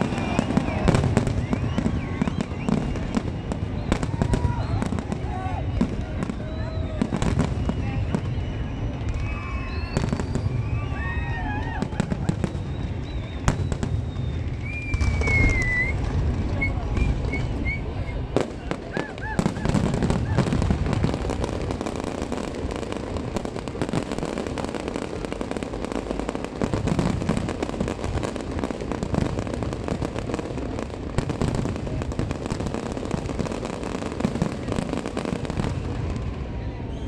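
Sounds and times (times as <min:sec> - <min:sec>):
fireworks crackling and banging: 0:00.0 - 0:37.0
fireworks whistling: 0:00.0 - 0:37.0.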